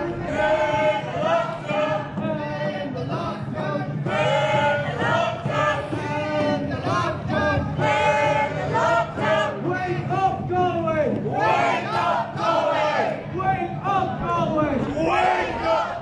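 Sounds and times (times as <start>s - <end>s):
crowd singing together: 0.0s - 16.0s.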